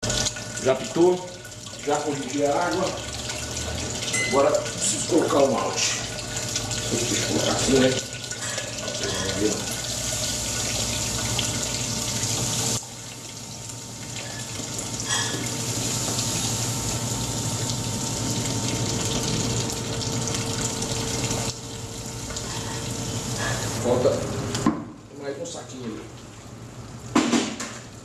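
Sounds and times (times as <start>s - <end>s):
pump humming: 0.0s - 28.0s
water running: 0.0s - 28.0s.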